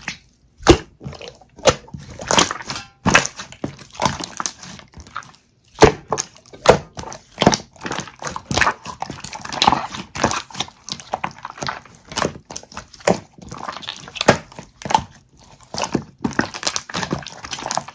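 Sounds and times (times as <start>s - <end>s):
slime squelching: 0.0s - 17.9s.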